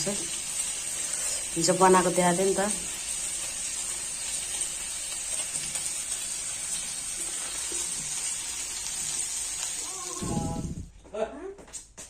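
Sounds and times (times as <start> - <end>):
curry sizzling in a pan: 0.0 - 10.8.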